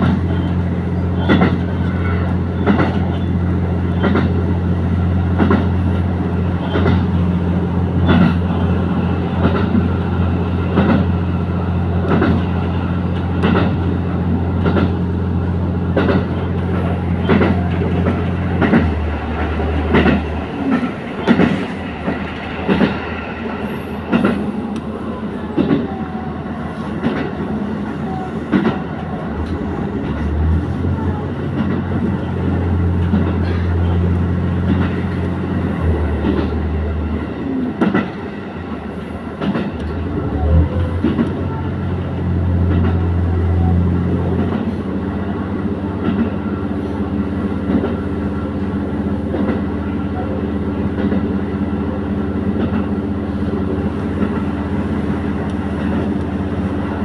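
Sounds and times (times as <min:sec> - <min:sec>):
train wheels clicking on rail joints: 0:00.0 - 0:26.1, 0:26.8 - 0:57.0
diesel train engine drone: 0:00.0 - 0:57.0.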